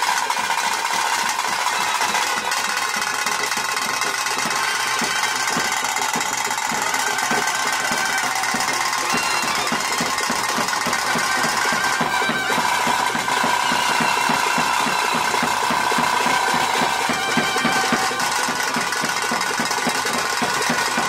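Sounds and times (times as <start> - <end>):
rapid even drumbeats: 0.0 - 21.0
wind instrument holding high notes: 0.0 - 21.0.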